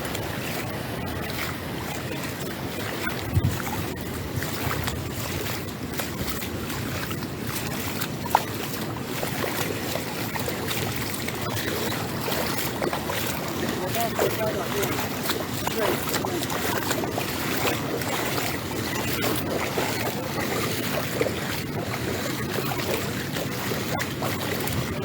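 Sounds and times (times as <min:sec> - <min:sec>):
moving water: 0:00.0 - 0:25.0
wind buffeting microphone: 0:00.0 - 0:25.0.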